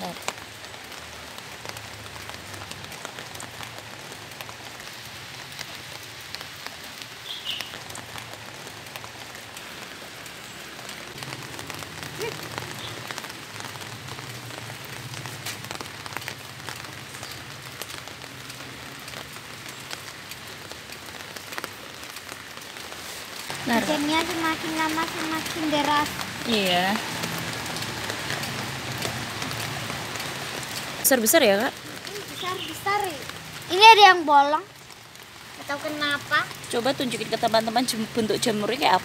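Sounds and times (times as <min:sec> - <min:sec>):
raindrops ticking close by: 0:00.0 - 0:39.0
steady rain falling: 0:00.0 - 0:39.0.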